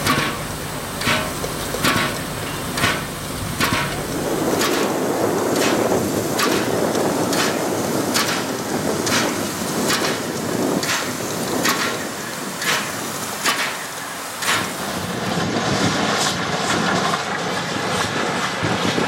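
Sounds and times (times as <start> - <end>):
steady rushing noise: 0.0 - 19.0
steam locomotive chuffing: 0.0 - 19.0.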